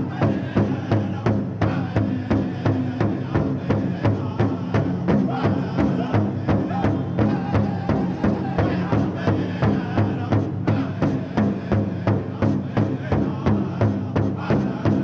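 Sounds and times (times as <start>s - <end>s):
group singing: 0.0s - 15.0s
large drum beating: 0.0s - 15.0s.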